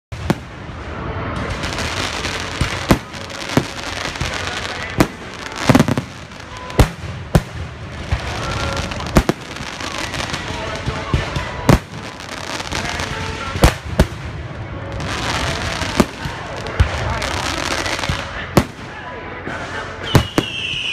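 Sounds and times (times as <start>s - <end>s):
fireworks bangs: 0.1s - 20.9s
fireworks crackling: 0.1s - 20.9s.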